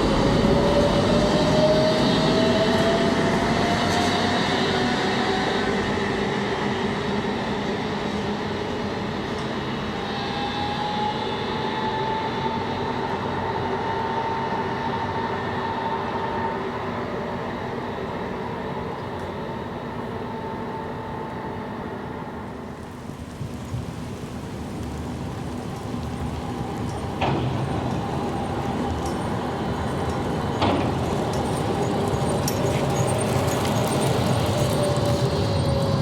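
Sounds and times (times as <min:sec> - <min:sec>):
tram traction drive whine: 0:00.0 - 0:36.0
tram wheel and rail noise: 0:00.0 - 0:36.0.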